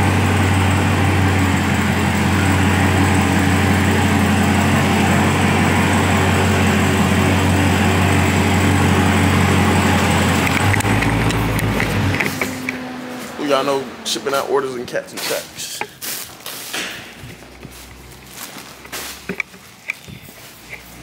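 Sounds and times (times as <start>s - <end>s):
car engine idling: 0.0s - 16.0s, 17.0s - 21.0s.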